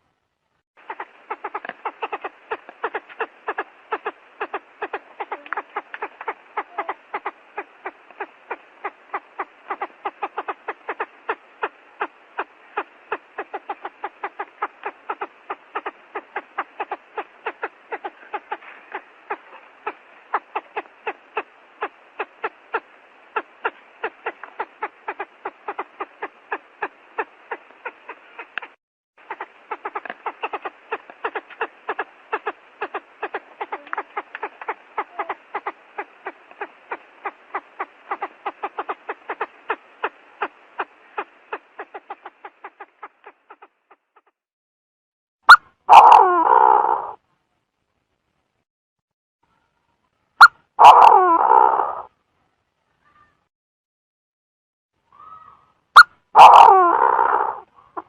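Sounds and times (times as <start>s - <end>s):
quail calling in clicking pulses: 0.8s - 44.4s, 45.5s - 47.2s, 50.4s - 52.1s, 55.2s - 58.0s.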